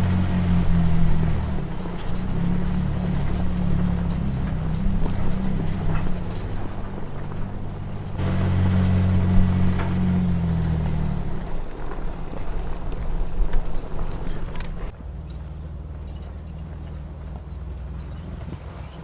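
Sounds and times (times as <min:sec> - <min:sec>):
off-road vehicle engine: 0:00.0 - 0:19.0
rumbling road noise: 0:00.0 - 0:19.0.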